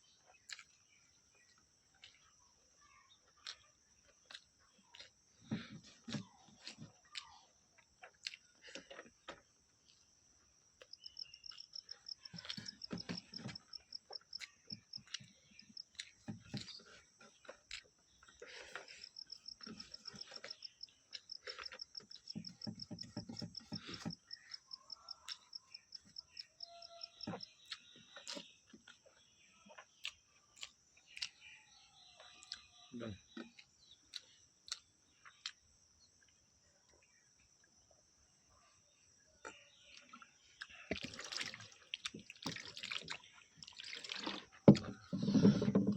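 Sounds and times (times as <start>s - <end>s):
person chewing food: 0.2s - 2.4s, 3.2s - 31.6s, 32.2s - 37.1s, 39.4s - 45.6s.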